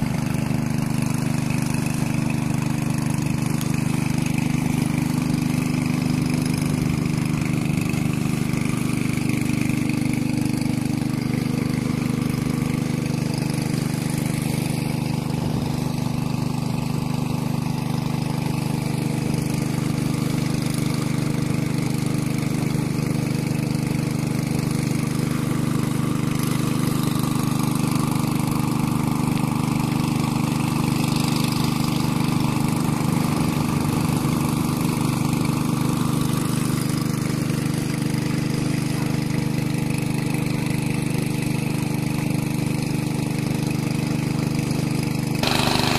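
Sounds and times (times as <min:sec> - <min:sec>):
small engine running steadily: 0:00.0 - 0:45.9.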